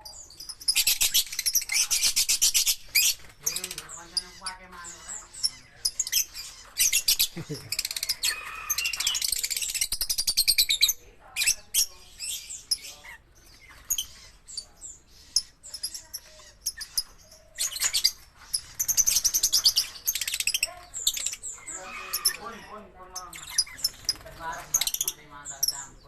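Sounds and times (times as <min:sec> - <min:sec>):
lovebirds chirping: 0:00.0 - 0:26.0.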